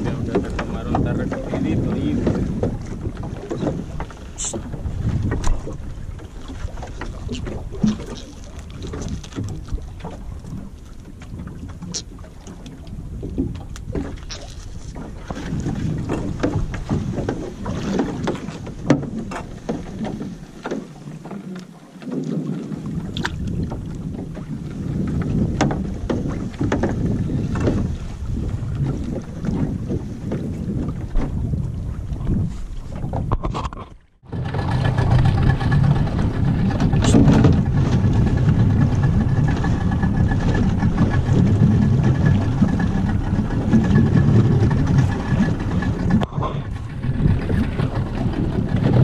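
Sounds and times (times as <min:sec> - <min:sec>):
water sloshing against boat hull: 0:00.0 - 0:49.0
wind rumbling on microphone: 0:00.0 - 0:49.0.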